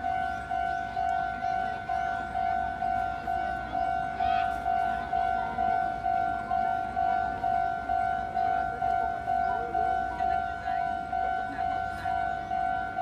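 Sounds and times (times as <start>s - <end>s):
level crossing bell ringing: 0.0s - 13.0s.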